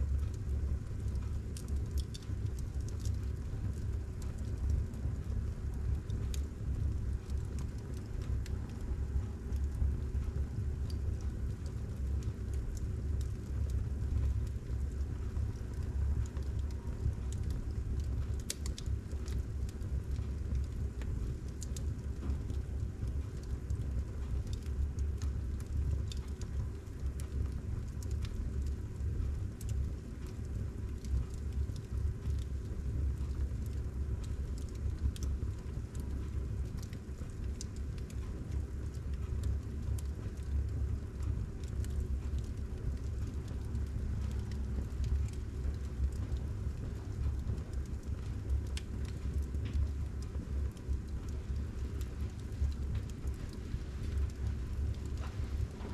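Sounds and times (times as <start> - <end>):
fire rumbling: 0.0 - 55.9
wood crackling and popping: 0.0 - 55.9.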